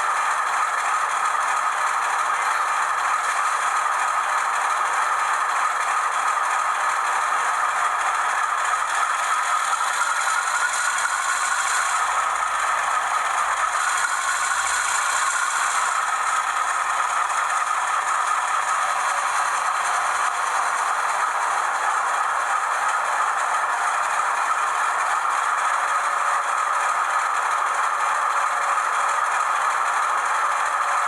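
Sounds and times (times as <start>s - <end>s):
model train rattling on track: 0.0s - 31.0s.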